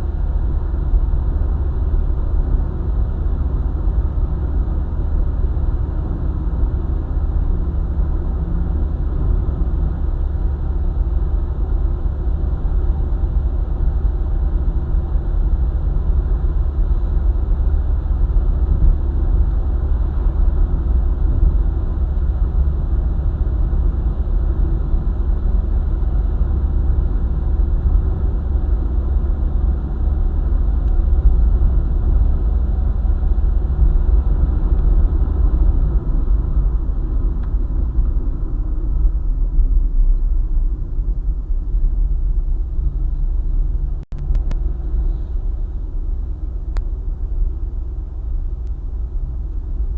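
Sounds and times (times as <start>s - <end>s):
car engine and tyre rumble: 0.0s - 49.9s.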